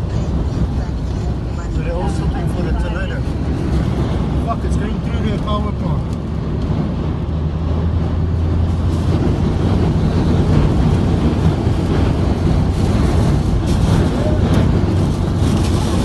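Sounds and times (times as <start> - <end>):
car engine humming: 0.0 - 16.0
storm wind buffeting: 0.0 - 16.0.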